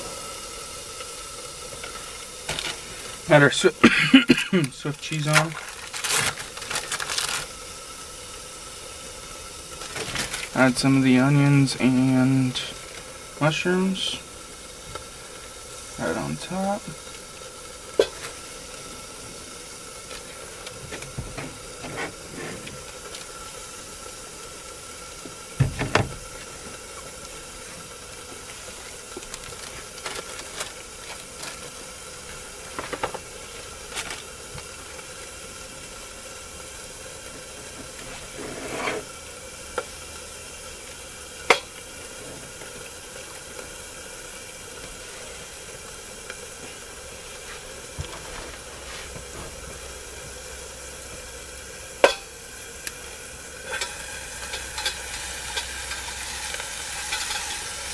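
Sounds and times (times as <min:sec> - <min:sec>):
burgers sizzling in a pot: 0:00.0 - 0:57.9.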